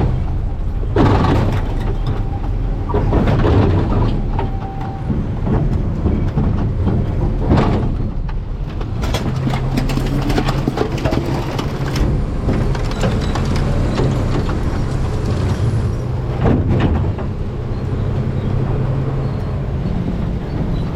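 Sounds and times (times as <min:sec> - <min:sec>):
low engine rumble: 0:00.0 - 0:20.9
trash crackling and rattling: 0:00.0 - 0:20.9.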